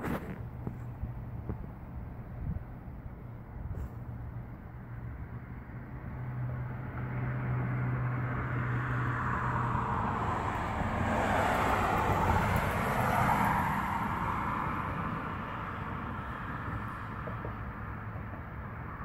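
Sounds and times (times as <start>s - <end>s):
vehicle passing by: 3.8s - 19.0s.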